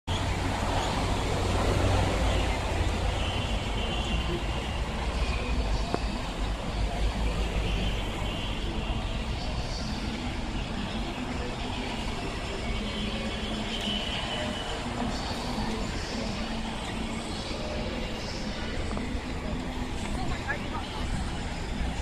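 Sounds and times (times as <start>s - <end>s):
cars driving past: 0.1s - 22.0s.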